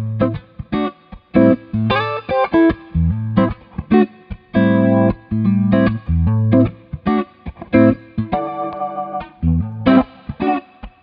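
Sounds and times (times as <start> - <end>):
electric guitar chords with wobble: 0.0 - 11.0.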